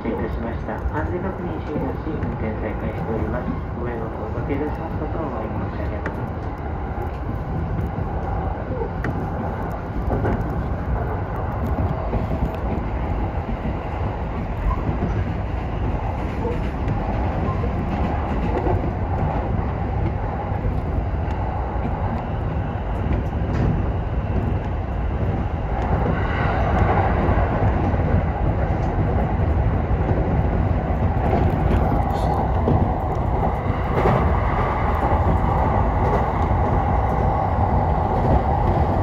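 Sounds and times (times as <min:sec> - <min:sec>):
train rumbling on track: 0:00.0 - 0:39.0
wheels clicking on rails: 0:00.0 - 0:39.0.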